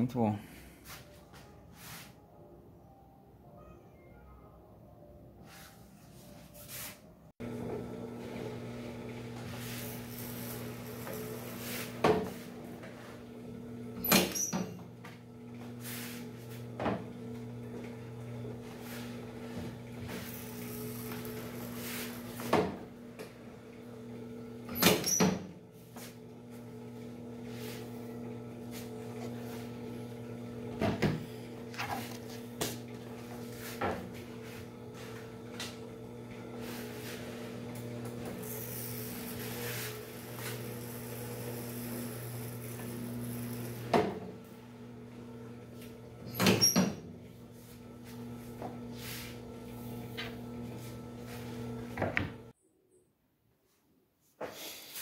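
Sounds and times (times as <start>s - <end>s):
edgebander machine humming: 7.4s - 52.5s.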